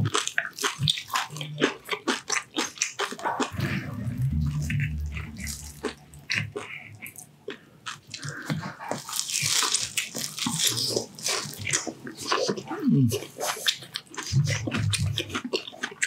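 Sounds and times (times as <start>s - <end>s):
chewing crispy food: 0.0s - 16.0s.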